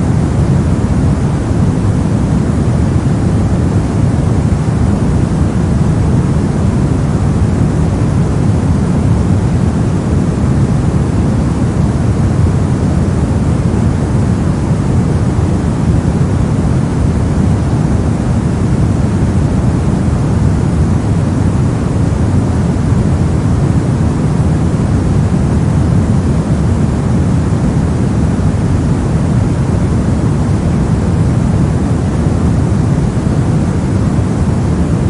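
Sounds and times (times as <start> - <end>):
brown noise: 0.0 - 35.0.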